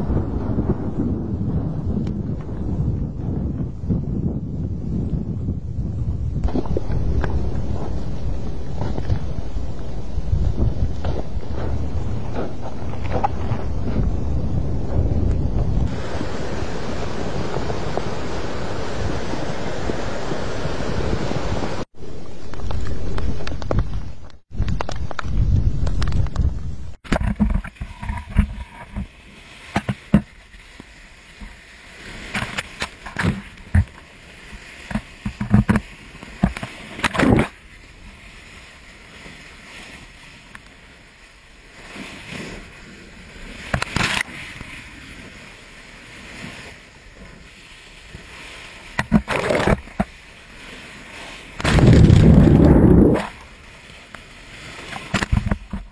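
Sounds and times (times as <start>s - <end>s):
seawater splashing and surging: 6.4s - 24.4s, 27.2s - 55.9s.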